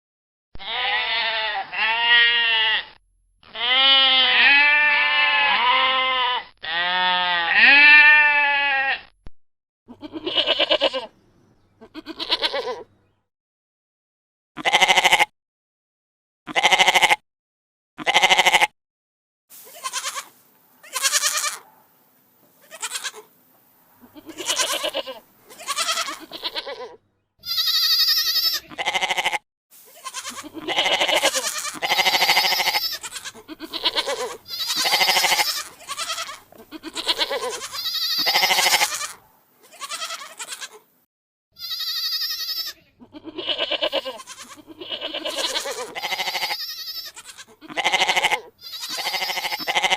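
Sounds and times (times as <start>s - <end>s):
goats bleating: 0.6s - 9.1s, 9.9s - 11.1s, 11.8s - 12.9s, 14.6s - 15.3s, 16.5s - 17.2s, 18.0s - 18.7s, 19.6s - 21.7s, 22.6s - 23.3s, 24.0s - 40.8s, 41.6s - 49.9s.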